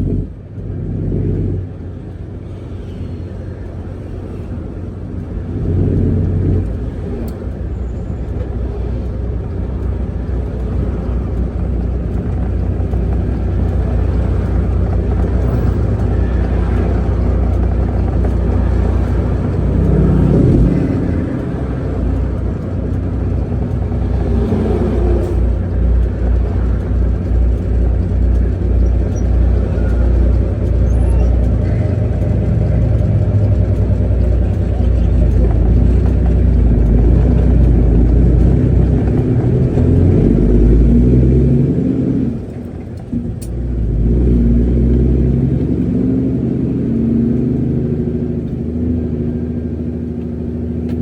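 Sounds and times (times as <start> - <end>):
diesel truck engine rumbling: 0.0 - 51.0.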